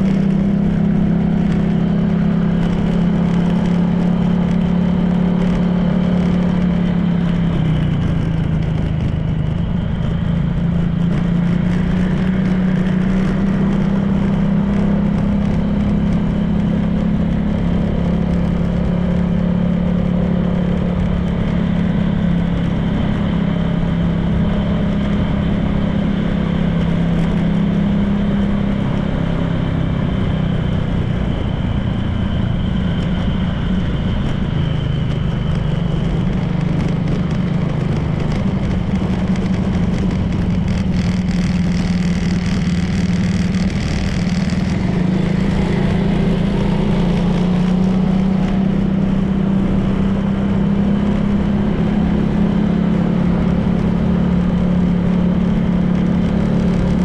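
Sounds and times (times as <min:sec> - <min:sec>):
scooter engine cruising: 0:00.0 - 0:57.0
wind and road noise: 0:00.0 - 0:57.0.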